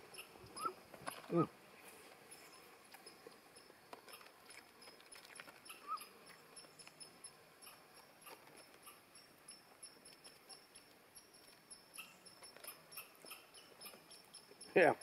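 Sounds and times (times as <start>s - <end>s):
bird chirp: 0.0s - 1.4s, 2.3s - 4.2s, 4.8s - 15.0s.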